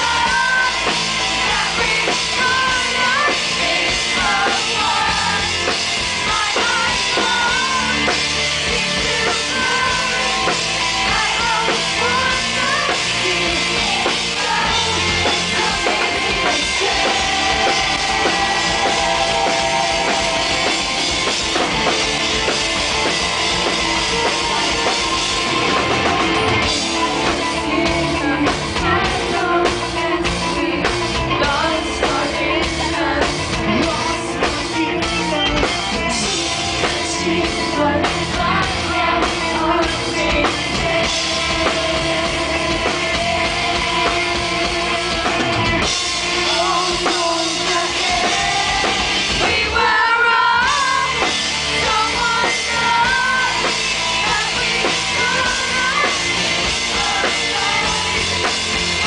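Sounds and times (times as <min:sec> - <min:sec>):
drum kit: 0:00.0 - 0:59.0
electric guitar: 0:00.0 - 0:59.0
woman singing lead vocals: 0:00.0 - 0:59.0.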